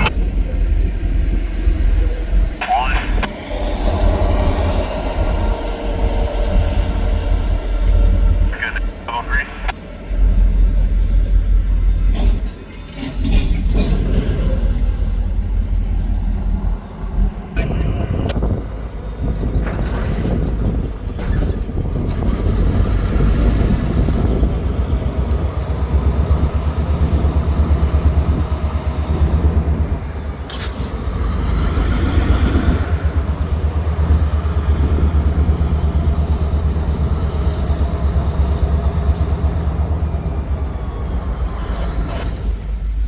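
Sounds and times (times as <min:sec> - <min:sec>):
freight train rumbling: 0:00.0 - 0:43.0.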